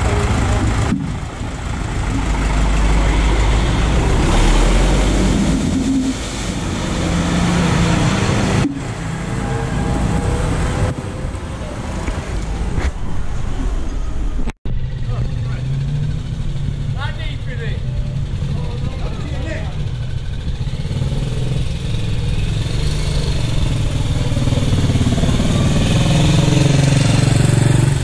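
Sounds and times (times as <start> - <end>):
tyres splashing through water: 0.0 - 13.8, 15.6 - 28.0
tractor diesel engine running: 0.0 - 27.9.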